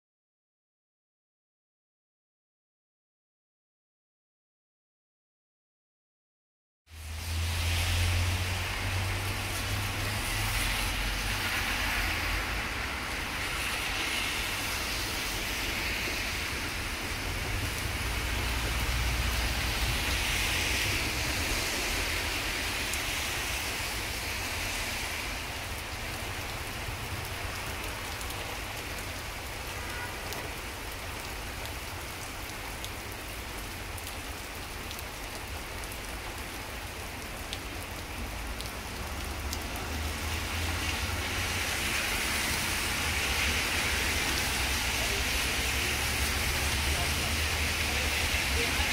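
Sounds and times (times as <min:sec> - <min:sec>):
rain on wet street: 0:06.9 - 0:48.9.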